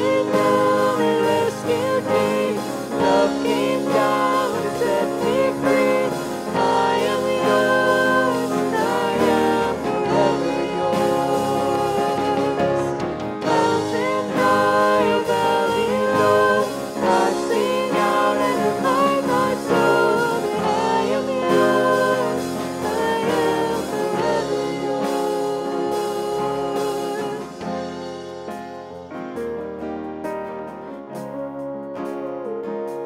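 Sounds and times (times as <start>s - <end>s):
man and woman singing: 0.0s - 27.8s
electric bass: 0.0s - 28.9s
acoustic guitar: 0.0s - 33.0s
drums: 0.0s - 33.0s
keyboard: 0.0s - 33.0s.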